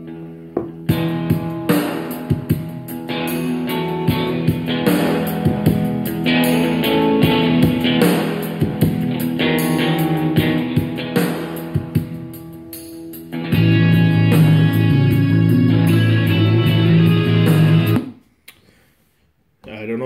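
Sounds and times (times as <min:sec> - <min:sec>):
guitar music through a speaker: 0:00.0 - 0:18.2.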